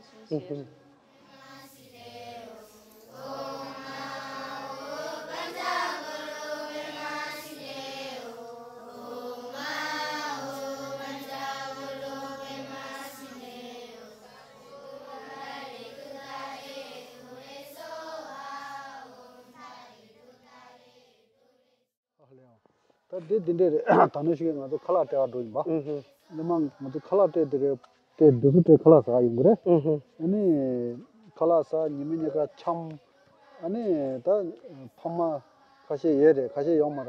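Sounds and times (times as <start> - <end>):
person chanting: 0.0 - 20.4, 23.2 - 28.6, 29.2 - 37.0.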